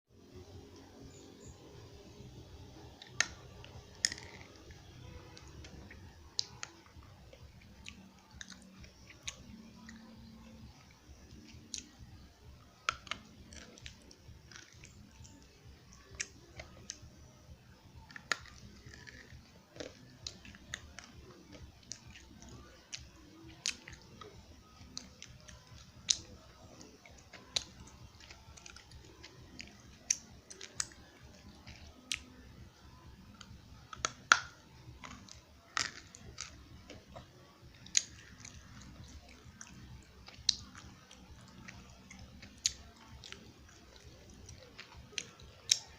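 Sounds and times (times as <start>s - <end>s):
person chewing crunchy clay: 0.4s - 45.9s.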